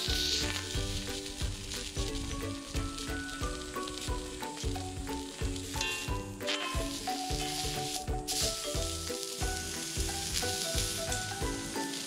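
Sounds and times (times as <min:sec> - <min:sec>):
background music with steady beat: 0:00.0 - 0:12.0
food sizzling on a griddle: 0:00.0 - 0:12.0.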